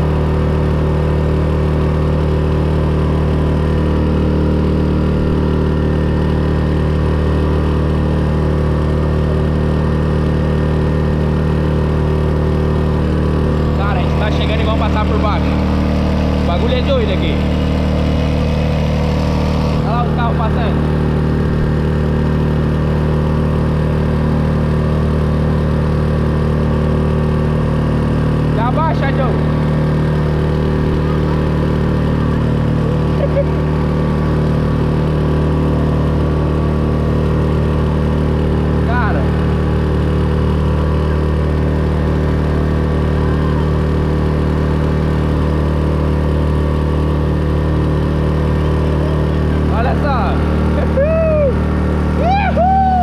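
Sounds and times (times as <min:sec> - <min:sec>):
outboard motor droning: 0:00.0 - 0:53.0.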